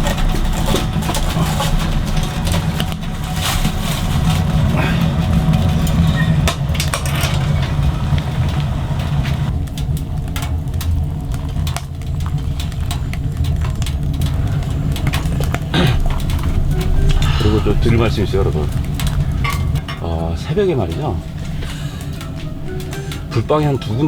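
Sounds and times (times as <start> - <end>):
sharp cracks and clicks: 0.0 - 24.0
steady low rumble: 0.0 - 24.0.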